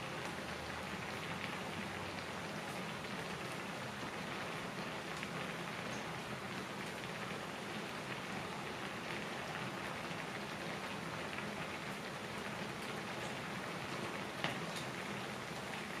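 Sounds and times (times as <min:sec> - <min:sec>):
broth bubbling in a pot: 0:00.0 - 0:16.0.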